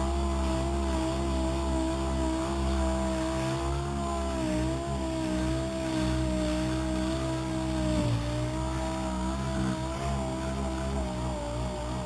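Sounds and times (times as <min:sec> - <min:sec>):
power sander whining: 0:00.0 - 0:12.0.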